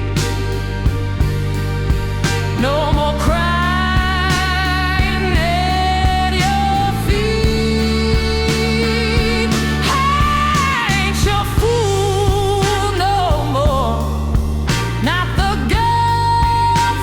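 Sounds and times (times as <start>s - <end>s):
slow soul blues ballad: 0.0s - 17.0s.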